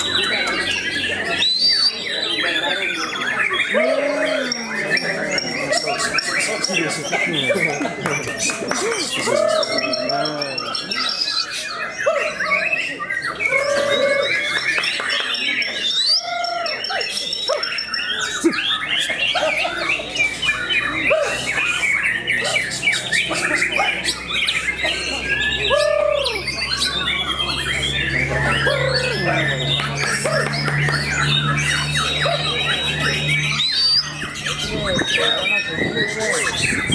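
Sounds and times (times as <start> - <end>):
birds whistling and chirping: 0.0 - 36.9.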